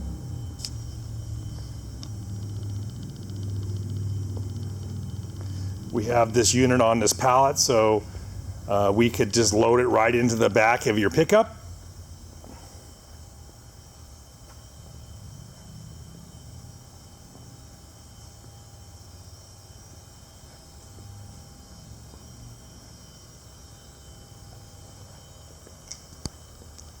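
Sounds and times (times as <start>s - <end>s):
low steady rumble: 0.0s - 25.7s.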